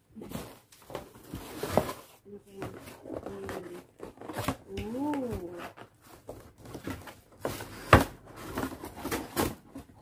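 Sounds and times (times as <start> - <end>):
cardboard scratching and rustling: 0.2 - 10.0.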